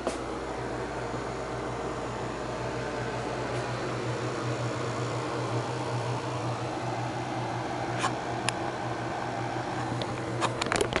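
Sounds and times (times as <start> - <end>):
air conditioner and fan hum: 0.0 - 11.0.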